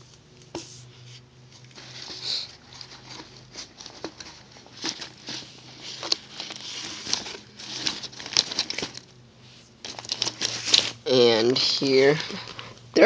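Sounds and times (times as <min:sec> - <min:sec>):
cardboard pack rustling: 0:01.6 - 0:12.9.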